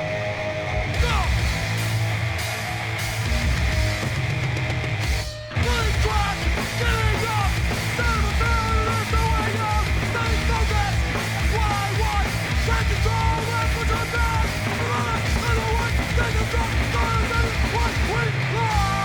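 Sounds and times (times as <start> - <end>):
hardcore punk song: 0.0 - 19.0
loud dense guitars: 0.0 - 19.0
fast drumming: 0.9 - 19.0.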